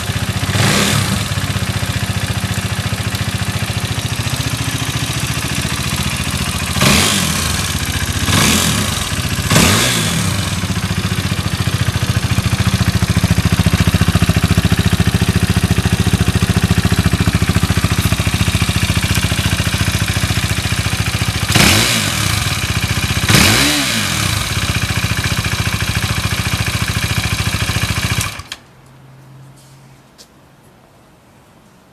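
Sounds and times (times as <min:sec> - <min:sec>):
motorcycle engine idling and revving: 0:00.0 - 0:28.6.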